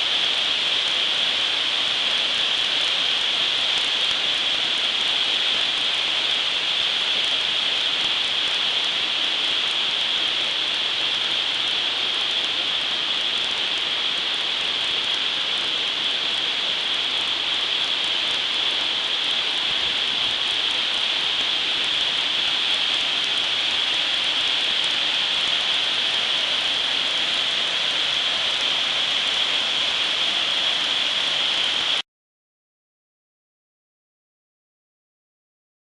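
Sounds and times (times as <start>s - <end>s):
waterfall pouring: 0.0s - 32.0s.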